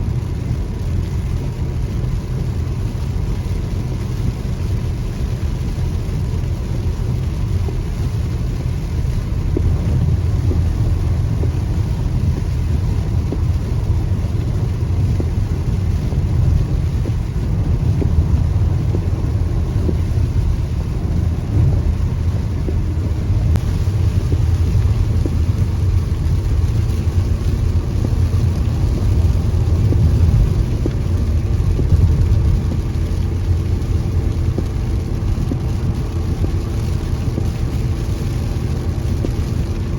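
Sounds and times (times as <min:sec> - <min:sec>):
rain: 0:00.0 - 0:39.9
road and engine rumble: 0:00.0 - 0:39.9.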